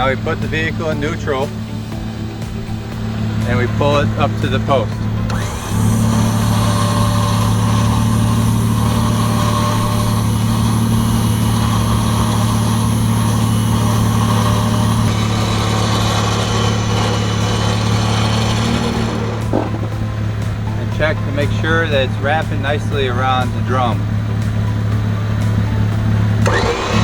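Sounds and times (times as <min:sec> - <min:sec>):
electric winch running under load: 0:00.0 - 0:27.0.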